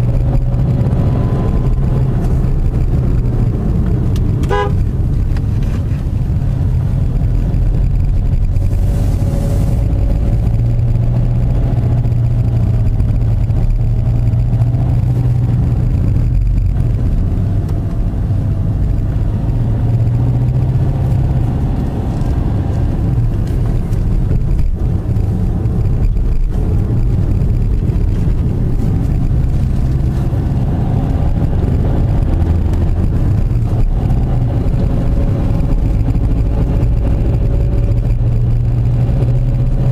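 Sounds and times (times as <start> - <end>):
car engine and tyre drone: 0.0 - 39.9.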